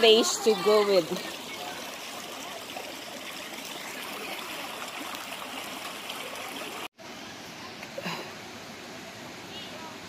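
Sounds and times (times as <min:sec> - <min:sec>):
stream water rushing: 0:00.0 - 0:09.5.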